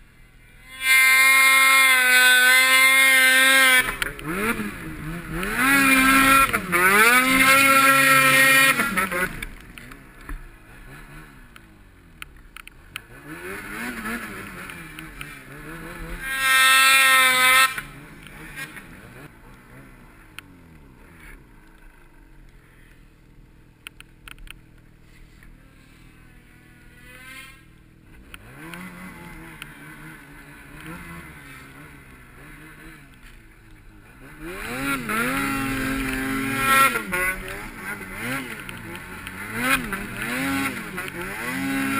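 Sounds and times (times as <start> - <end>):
distant snowmobile engines revving: 0.0 - 41.9
snowmobile passing close: 0.2 - 12.2, 12.9 - 22.9, 25.1 - 41.9.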